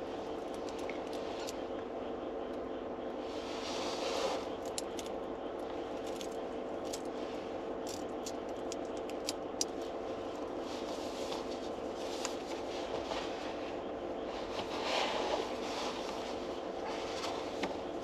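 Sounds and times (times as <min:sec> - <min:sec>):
steady hum of held tones: 0:00.0 - 0:18.0.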